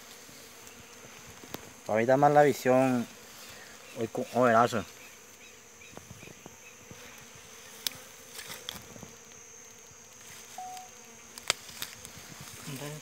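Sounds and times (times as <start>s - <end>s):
flies buzzing: 0.0s - 13.0s.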